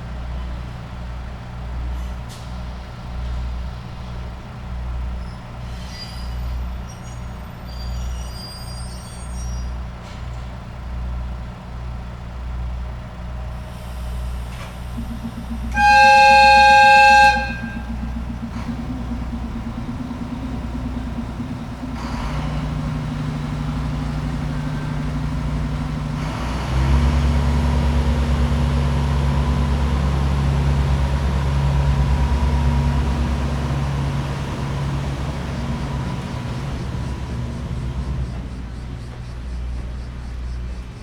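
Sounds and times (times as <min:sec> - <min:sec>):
diesel train engine: 0:00.0 - 0:41.0.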